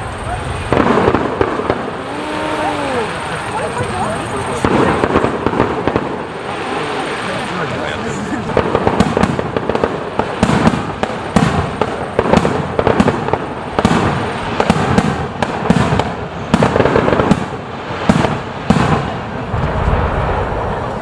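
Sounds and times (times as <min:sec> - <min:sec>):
firework shells bursting: 0:00.0 - 0:21.0
fireworks crackling: 0:00.0 - 0:21.0.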